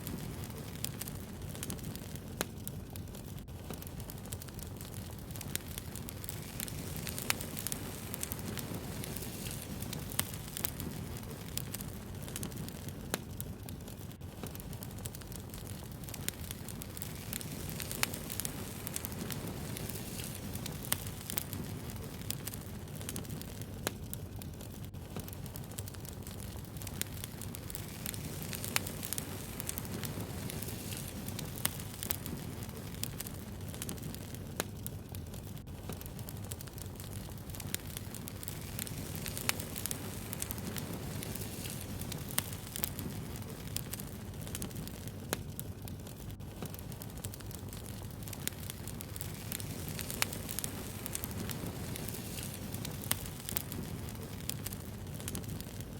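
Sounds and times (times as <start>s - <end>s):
fire crackling and popping: 0.0s - 55.9s
fire low rumble: 0.0s - 55.9s.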